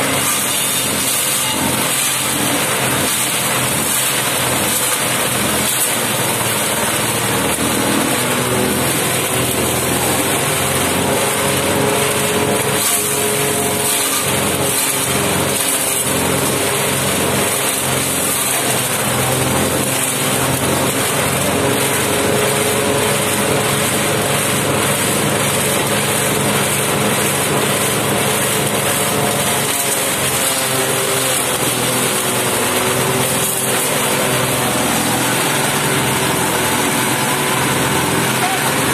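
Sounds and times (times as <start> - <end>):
waste shredder running: 0.0 - 38.9.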